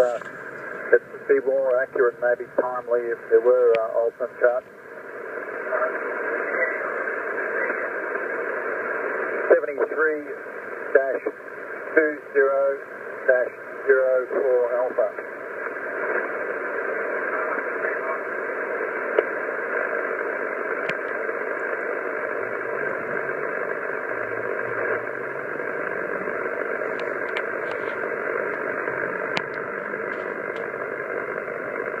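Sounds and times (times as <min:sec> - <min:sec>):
faint static clicks: 0:00.0 - 0:32.0
radio band noise hiss: 0:00.0 - 0:32.0.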